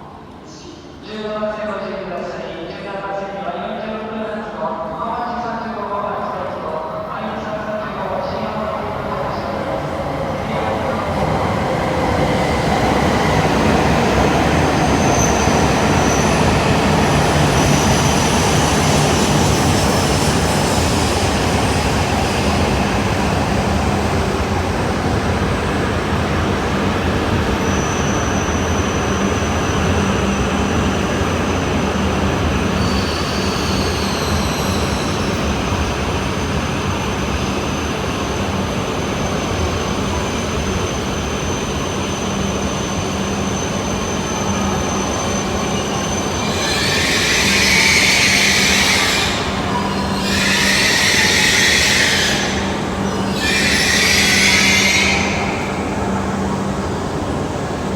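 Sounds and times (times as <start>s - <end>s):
train wheels rumbling: 8.7s - 57.9s.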